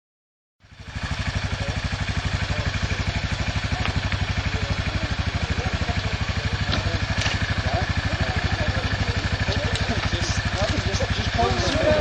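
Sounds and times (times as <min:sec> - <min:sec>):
quad bike engine idling: 0:00.6 - 0:12.0.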